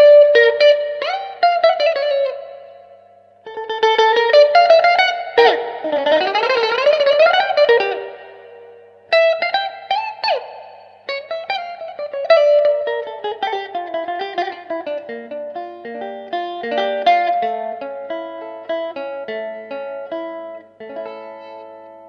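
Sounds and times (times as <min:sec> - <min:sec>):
guitar instrumental: 0:00.0 - 0:22.0.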